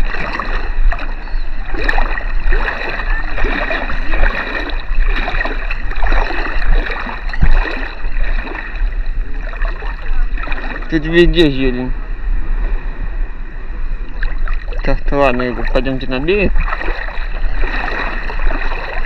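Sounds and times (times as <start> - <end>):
sea water splashing around wading: 0.0 - 19.0.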